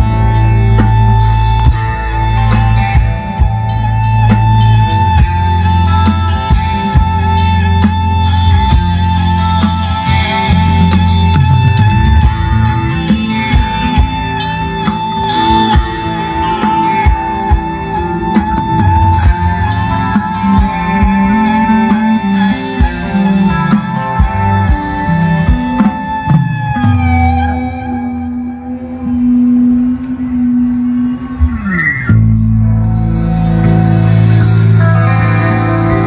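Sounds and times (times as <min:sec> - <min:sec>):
loud rock music over pa: 0:00.0 - 0:36.0.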